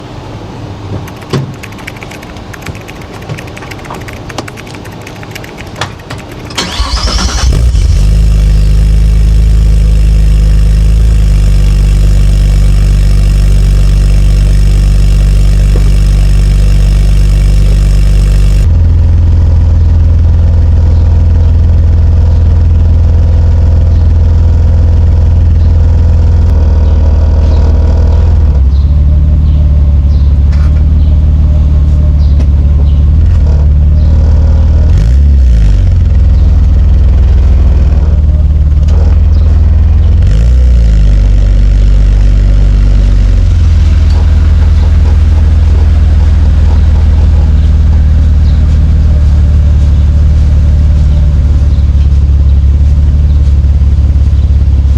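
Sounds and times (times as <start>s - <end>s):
car engine starting and idling: 0.0s - 54.9s.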